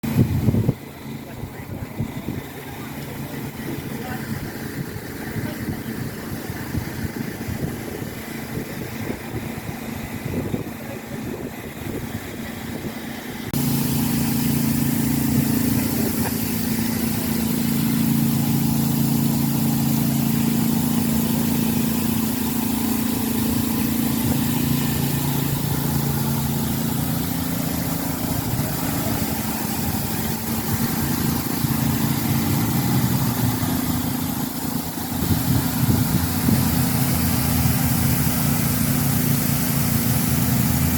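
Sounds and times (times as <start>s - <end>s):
low engine hum: 0.0s - 40.9s
steady rushing noise: 0.0s - 40.9s.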